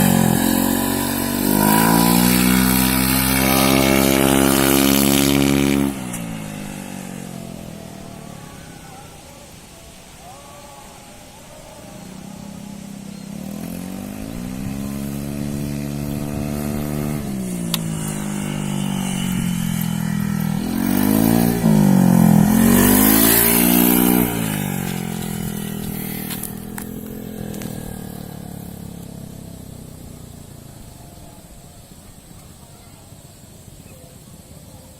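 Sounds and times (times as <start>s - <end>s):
scooter engine revving: 0.0s - 10.2s, 11.2s - 32.5s.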